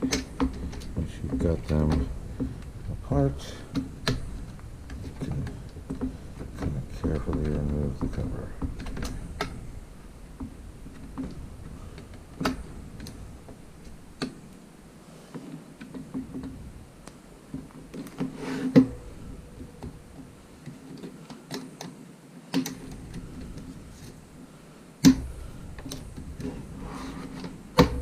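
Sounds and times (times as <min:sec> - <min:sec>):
plastic parts clicking and knocking: 0:00.0 - 0:09.7, 0:10.3 - 0:14.6, 0:15.3 - 0:24.2, 0:25.0 - 0:28.0.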